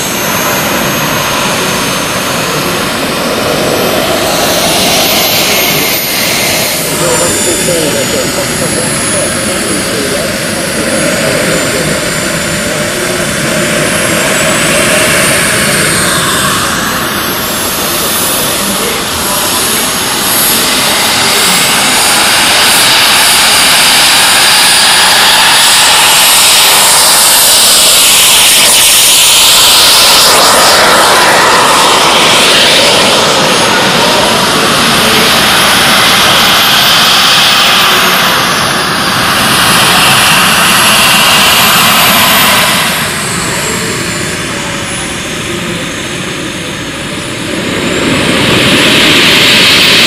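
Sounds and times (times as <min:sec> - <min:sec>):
model jet engines whining: 0:00.0 - 0:50.0.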